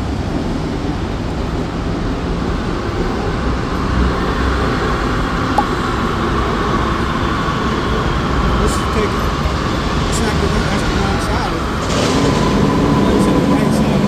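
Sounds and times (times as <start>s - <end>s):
train rumbling and rushing: 0.0s - 14.0s
train whine: 0.0s - 14.0s.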